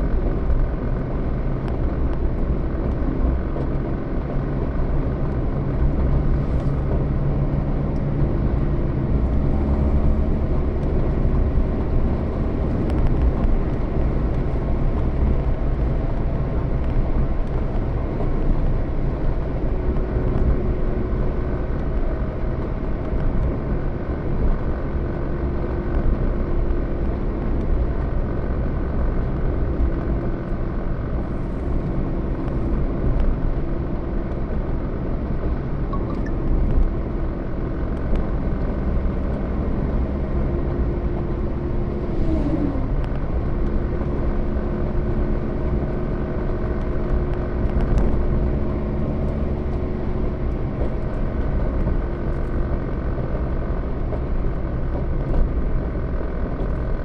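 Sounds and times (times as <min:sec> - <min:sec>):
engine hum: 0:00.0 - 0:57.0
road vehicle rumble: 0:00.0 - 0:57.0.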